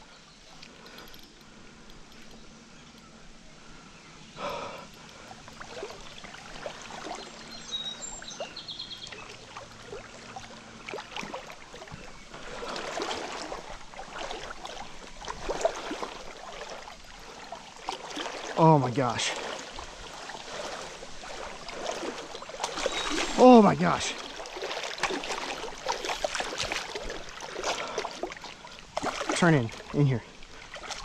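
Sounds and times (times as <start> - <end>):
stream water running: 0.0 - 31.0
water splashing: 4.5 - 31.0.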